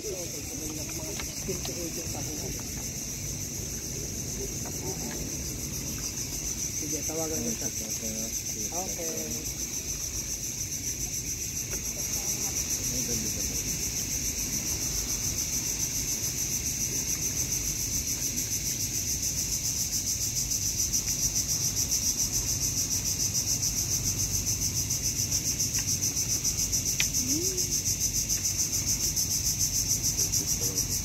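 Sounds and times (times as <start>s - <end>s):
insects buzzing: 0.0s - 31.0s.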